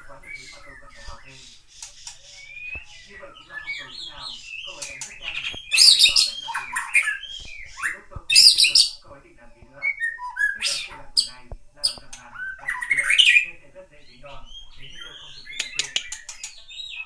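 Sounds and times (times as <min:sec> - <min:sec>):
bird chirps and whistles: 0:00.0 - 0:09.1, 0:09.8 - 0:13.5, 0:14.1 - 0:17.0
bird squawking: 0:00.0 - 0:17.0.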